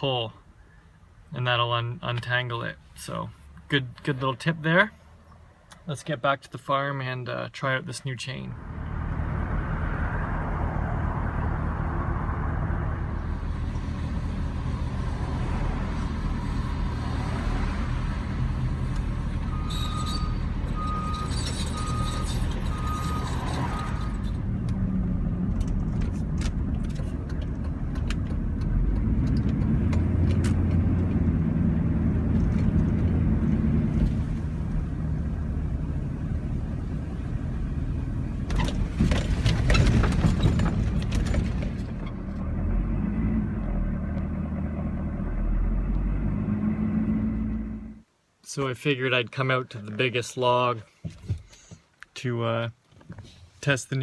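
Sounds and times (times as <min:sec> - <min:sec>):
vehicle engine and road drone: 0:00.0 - 0:06.6, 0:07.3 - 0:48.3.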